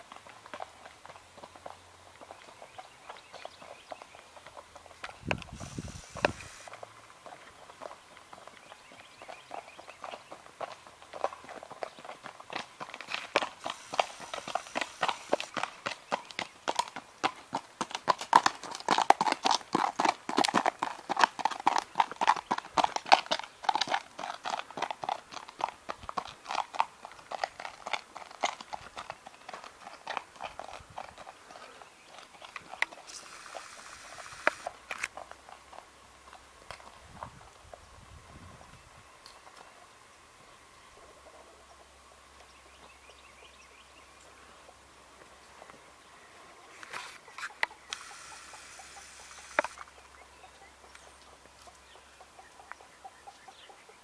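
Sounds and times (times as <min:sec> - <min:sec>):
horse hooves striking ground: 0:00.0 - 0:40.0, 0:41.0 - 0:54.0.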